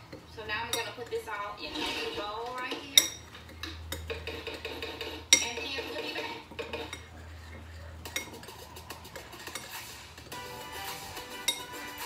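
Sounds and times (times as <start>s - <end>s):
spoon scraping a bowl: 0.0s - 12.0s.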